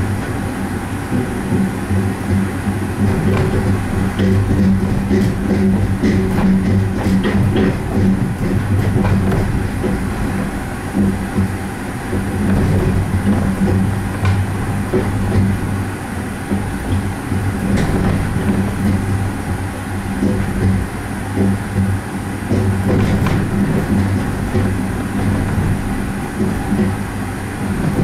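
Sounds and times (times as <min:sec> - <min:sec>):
gondola running on track: 0:00.0 - 0:28.0.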